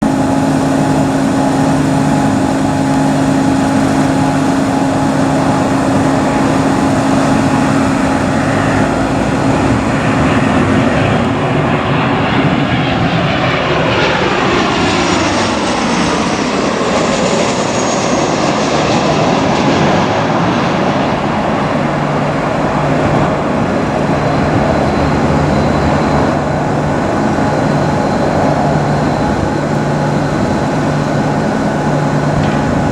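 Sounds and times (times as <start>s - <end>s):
jet airliner engines passing: 0.0s - 32.9s.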